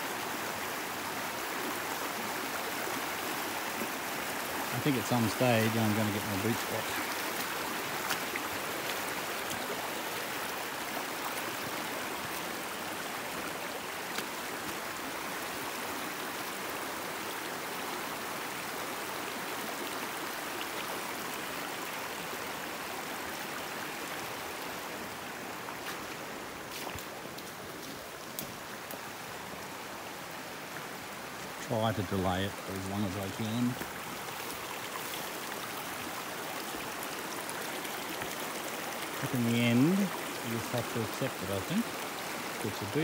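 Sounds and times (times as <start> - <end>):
creek water rushing: 0.0 - 43.0.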